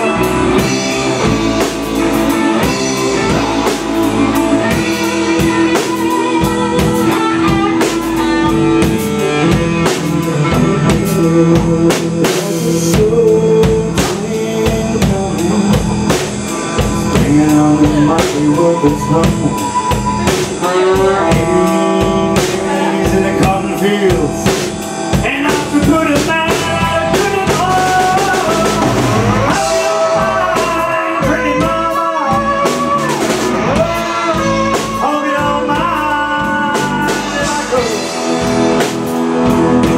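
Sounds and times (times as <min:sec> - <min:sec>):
guitar line bending in pitch: 0:00.0 - 0:12.2, 0:15.2 - 0:39.9
blues-rock band playing live: 0:00.0 - 0:39.9.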